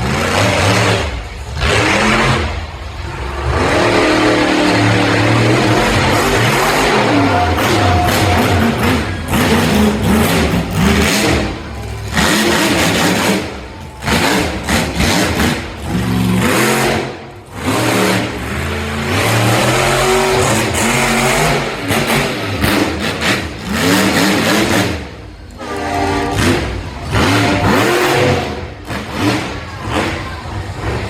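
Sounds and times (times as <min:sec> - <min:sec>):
truck engine revving hard: 0:00.0 - 0:31.0.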